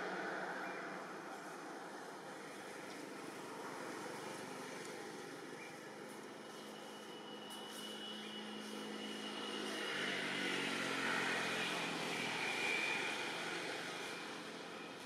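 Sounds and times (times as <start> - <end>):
distant engine drone passing: 0.0 - 7.4, 8.0 - 15.0.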